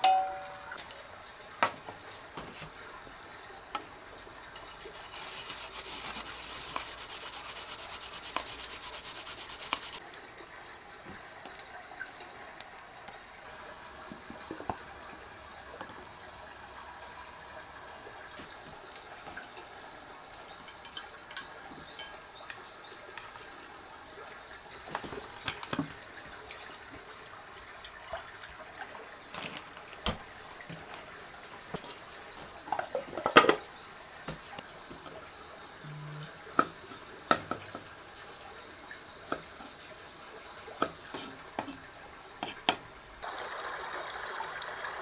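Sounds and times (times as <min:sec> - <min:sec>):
faint steady hiss: 0:00.0 - 0:45.0.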